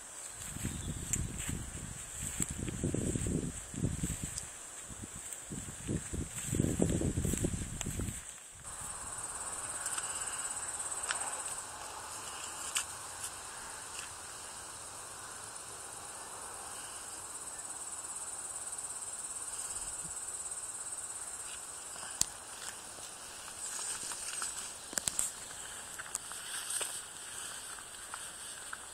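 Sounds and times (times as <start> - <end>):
crickets trilling: 0.0 - 28.9.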